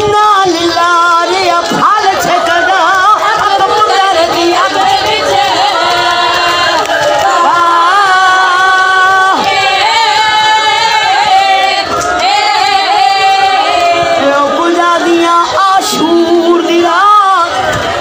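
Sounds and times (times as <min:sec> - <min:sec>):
woman singing a lament: 0:00.0 - 0:17.7.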